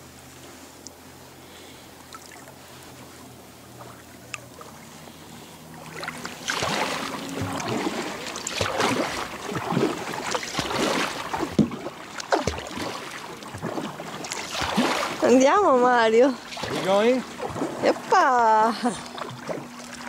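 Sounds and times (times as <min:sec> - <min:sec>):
paddle splashing in water: 0:01.5 - 0:20.0.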